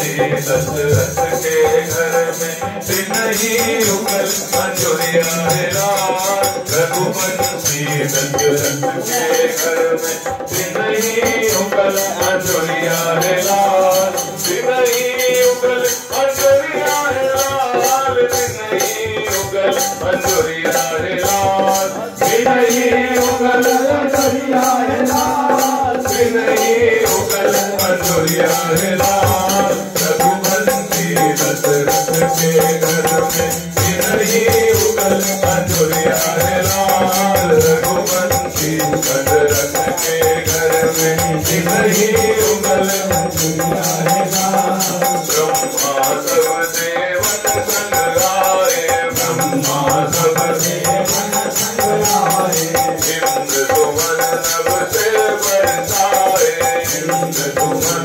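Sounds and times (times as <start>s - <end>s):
devotional song melody: 0.0s - 58.0s
jingling hand percussion: 0.0s - 58.0s.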